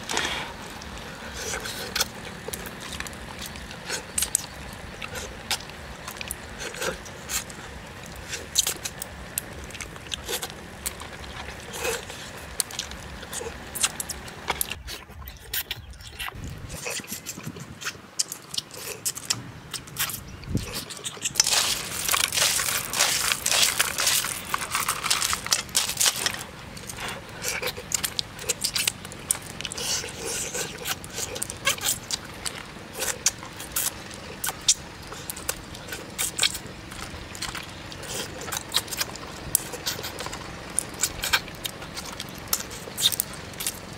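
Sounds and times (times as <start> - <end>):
person sucking and chewing: 0.0 - 43.9.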